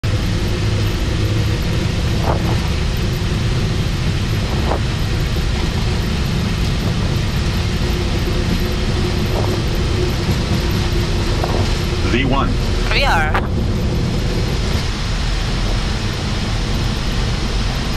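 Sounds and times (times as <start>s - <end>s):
jet engine and airflow noise: 0.0s - 17.9s
low runway rumble: 0.0s - 17.9s.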